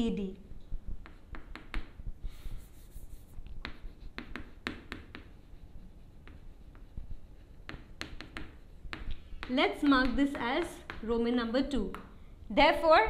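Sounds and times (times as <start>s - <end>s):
chalk writing on blackboard: 0.9s - 12.1s.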